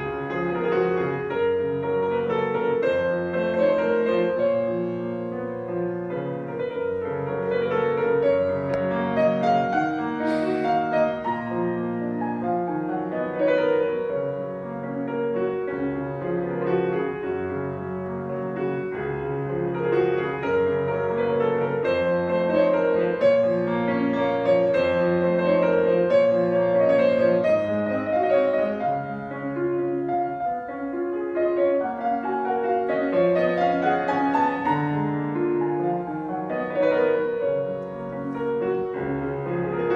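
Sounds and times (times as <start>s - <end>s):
classical piano piece: 0.0s - 39.9s.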